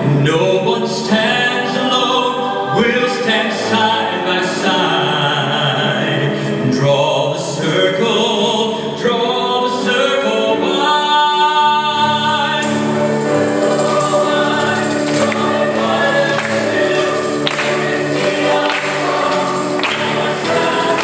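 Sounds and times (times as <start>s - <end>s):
choir singing chords: 0.0s - 21.0s
man singing a hymn: 0.0s - 21.0s.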